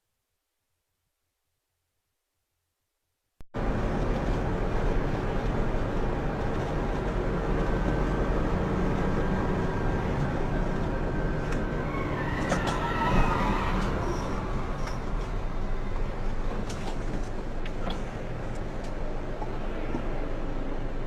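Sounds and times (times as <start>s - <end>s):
vehicle road noise: 3.6s - 21.0s.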